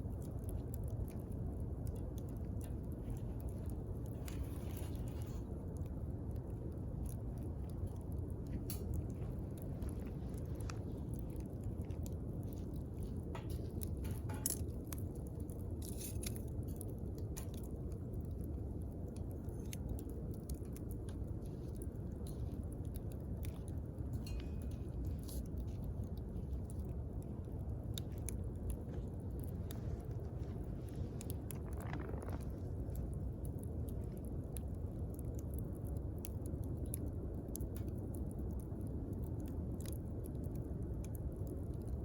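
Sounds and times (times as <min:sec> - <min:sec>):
campfire crackling: 0:00.0 - 0:42.0.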